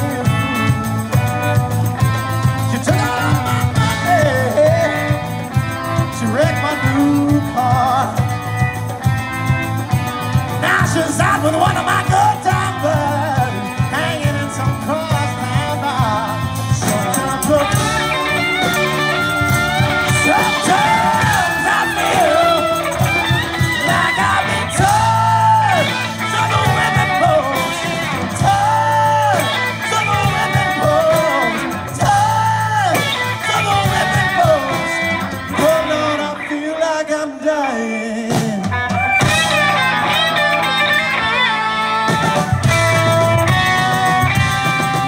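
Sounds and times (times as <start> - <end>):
person singing: 0.0 - 8.7, 10.5 - 45.0
electric guitar: 0.0 - 45.0
keyboards: 0.0 - 45.0.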